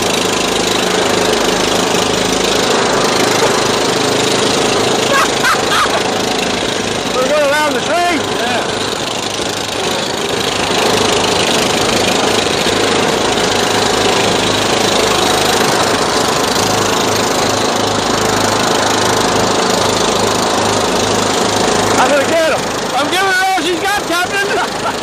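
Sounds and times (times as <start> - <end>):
lawn tractor engines droning: 0.0 - 25.0.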